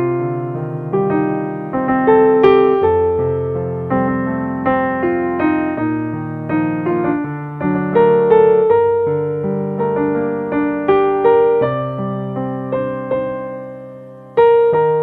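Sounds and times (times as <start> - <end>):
soft electric piano chords: 0.0 - 15.0.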